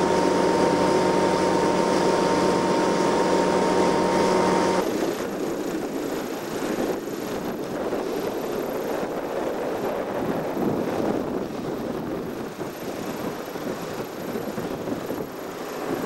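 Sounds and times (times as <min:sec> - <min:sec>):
motorboat running: 0:00.0 - 0:16.0
rough water rushing: 0:00.0 - 0:16.0
wind: 0:00.0 - 0:16.0.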